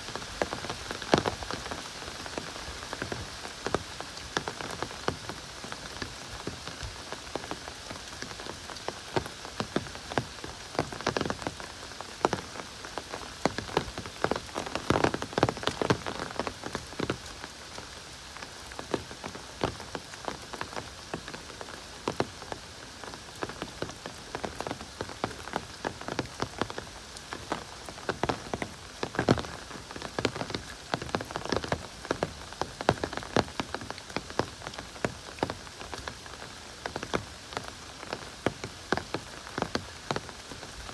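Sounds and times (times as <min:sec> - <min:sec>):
raindrops spattering close: 0:00.0 - 0:40.9.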